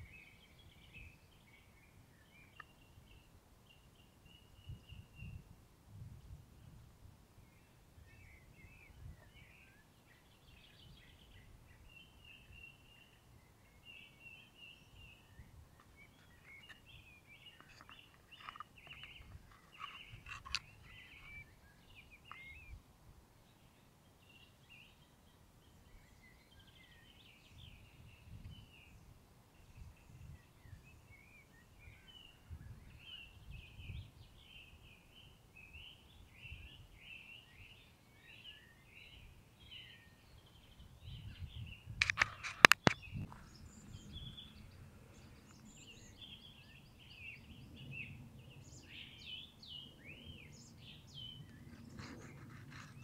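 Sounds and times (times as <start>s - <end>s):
birds chirping: 0.0s - 5.4s, 7.5s - 22.8s, 29.6s - 53.0s.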